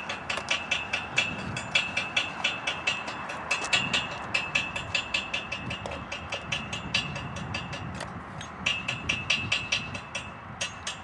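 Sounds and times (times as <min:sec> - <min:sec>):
ratchet clicking: 0:00.0 - 0:11.0.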